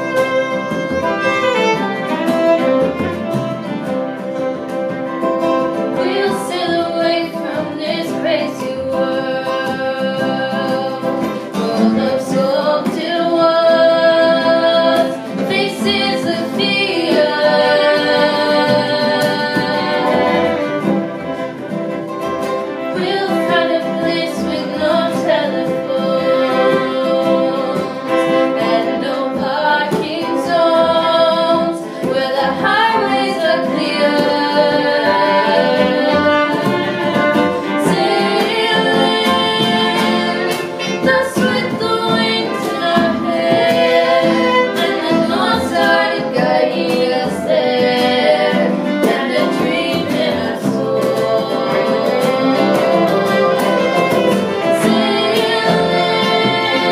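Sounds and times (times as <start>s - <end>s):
bowed fiddle: 0.0s - 56.9s
strummed acoustic guitar: 0.0s - 56.9s
women singing slow song: 5.9s - 21.0s, 22.9s - 56.9s.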